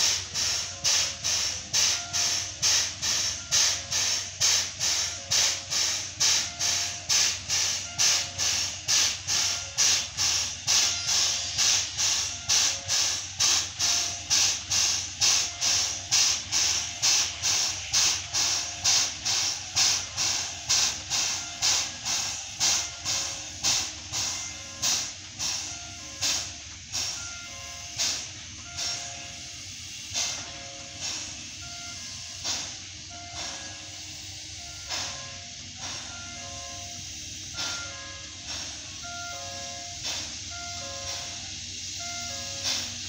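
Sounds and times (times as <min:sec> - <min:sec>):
steam air pump hissing rhythmically: 0:00.0 - 0:43.0.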